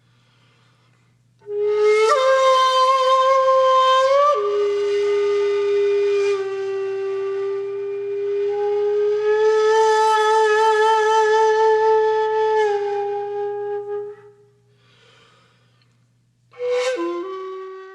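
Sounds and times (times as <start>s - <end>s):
flute-like wind instrument note: 1.4s - 14.4s, 16.5s - 17.9s.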